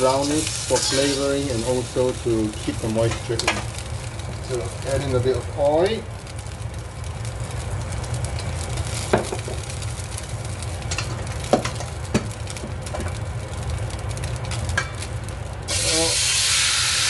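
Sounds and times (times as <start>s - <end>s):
oil sizzling in a wok: 0.0s - 17.0s.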